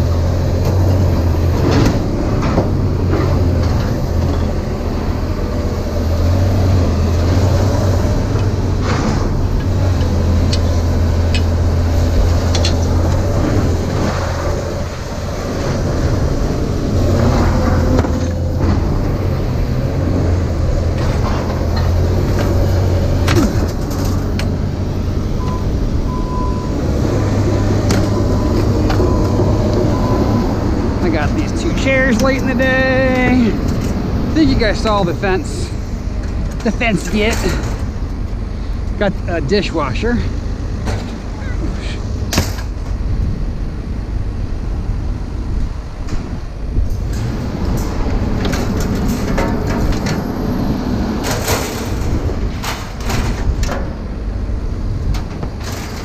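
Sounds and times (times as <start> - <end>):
engine and road drone: 0.0 - 56.0.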